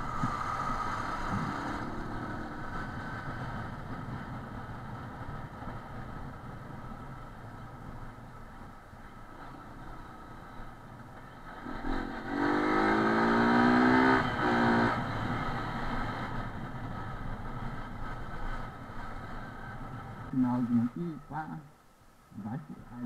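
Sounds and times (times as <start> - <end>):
motorcycle engine accelerating: 0.0 - 20.3
road noise: 0.0 - 23.0.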